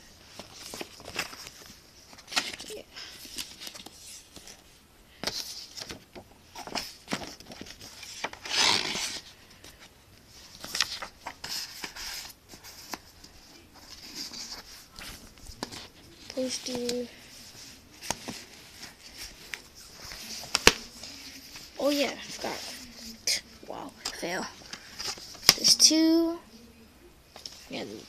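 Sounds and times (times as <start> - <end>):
paper rustling and sliding: 0.0 - 25.8.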